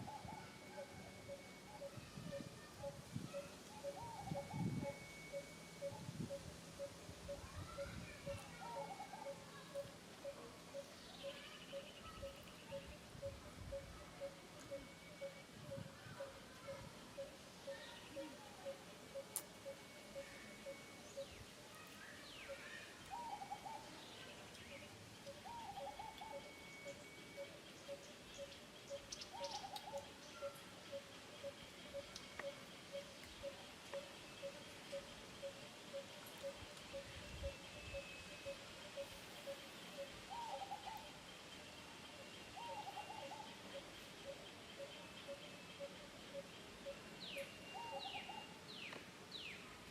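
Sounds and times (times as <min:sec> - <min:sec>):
faint bird calls: 0:00.0 - 0:41.3, 0:42.0 - 0:49.0.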